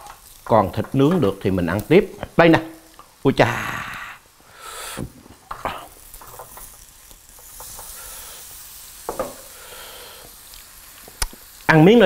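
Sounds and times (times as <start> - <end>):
meat sizzling on a grill plate: 0.0 - 12.0.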